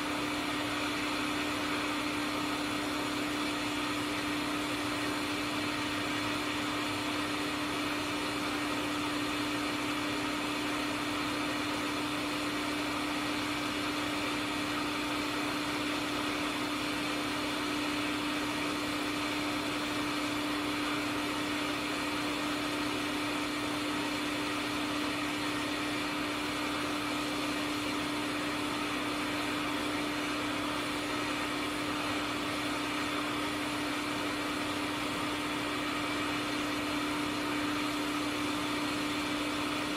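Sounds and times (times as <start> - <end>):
hot air station blowing: 0.0 - 39.9.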